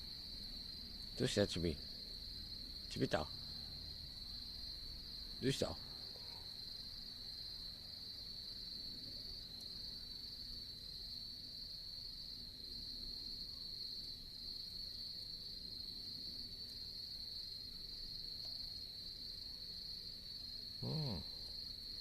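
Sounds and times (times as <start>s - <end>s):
faint low hum: 0.0s - 22.0s
insects trilling: 0.0s - 22.0s.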